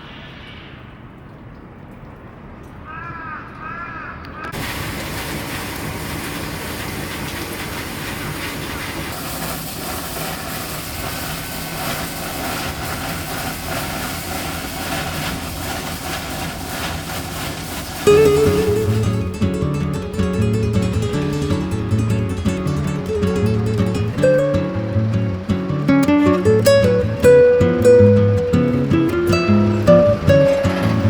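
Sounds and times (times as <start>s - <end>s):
steam vent hissing: 4.6s - 31.0s.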